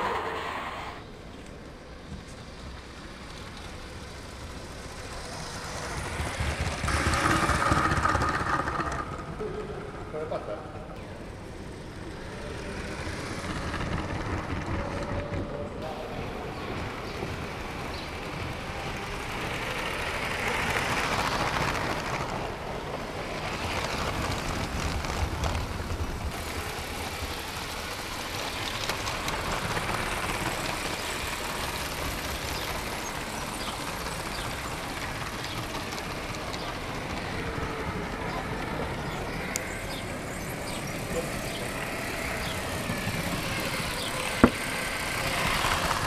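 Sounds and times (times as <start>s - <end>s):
toy train rattling on track: 2.3s - 9.7s, 11.2s - 46.0s.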